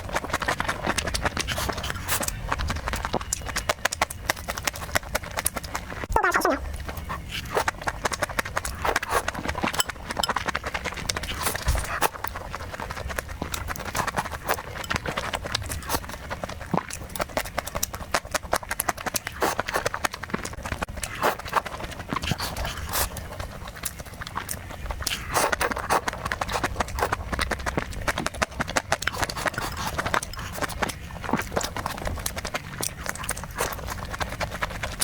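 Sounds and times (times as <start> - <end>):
chewing and lip smacking: 0.0 - 35.0.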